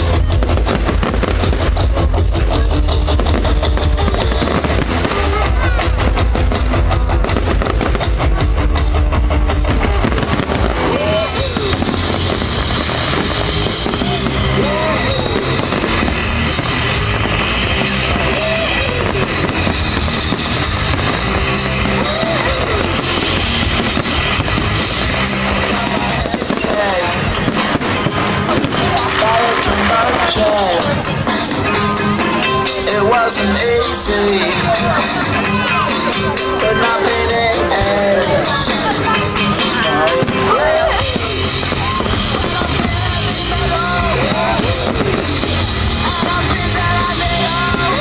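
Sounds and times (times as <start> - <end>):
fireworks cracking: 0.0 - 48.0
loud rock music: 0.0 - 48.0.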